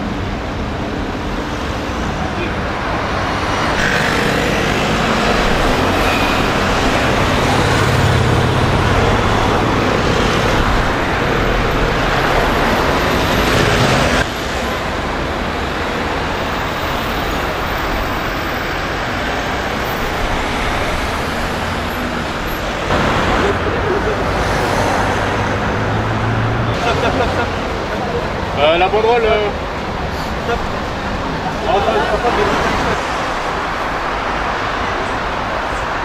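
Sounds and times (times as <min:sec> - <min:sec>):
cars driving past: 0:00.0 - 0:36.0.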